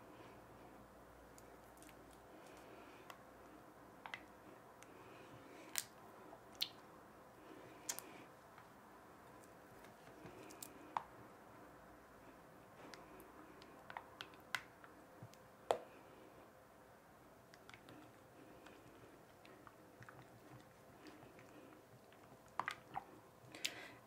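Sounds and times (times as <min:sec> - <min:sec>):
glue squishing while stirred: 0:01.2 - 0:06.9, 0:07.7 - 0:11.2, 0:12.4 - 0:15.9, 0:17.2 - 0:24.0.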